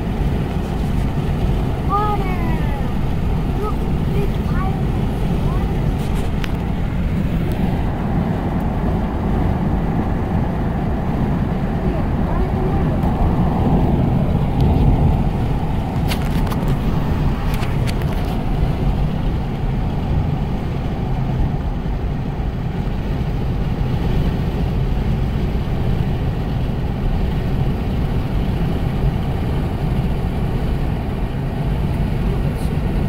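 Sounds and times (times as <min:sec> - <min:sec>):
car road rumble: 0:00.0 - 0:33.0.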